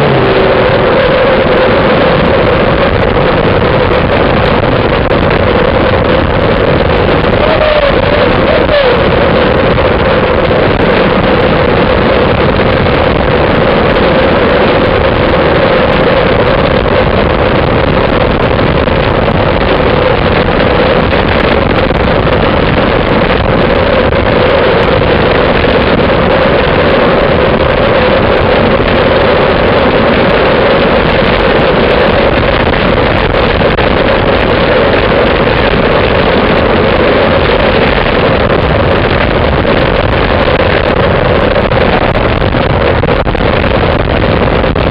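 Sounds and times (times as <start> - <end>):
mid-pitched hum: 0.0 - 44.9
wind rushing over microphone: 0.0 - 44.9.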